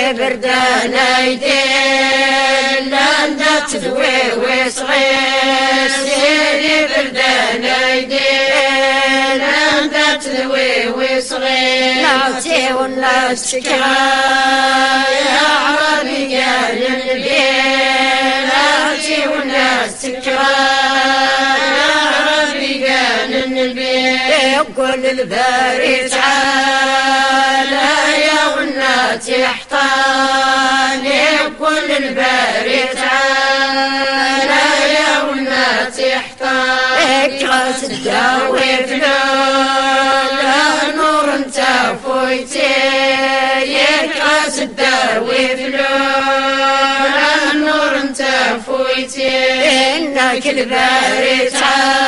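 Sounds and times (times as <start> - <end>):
women singing in unison: 0.0 - 52.0.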